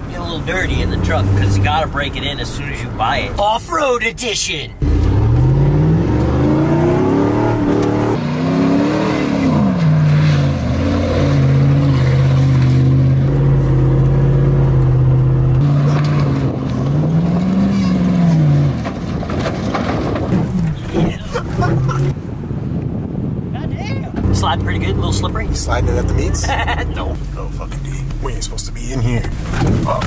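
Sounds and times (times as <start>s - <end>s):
pickup truck engine accelerating: 0.0s - 2.6s, 4.8s - 22.2s, 24.2s - 30.0s.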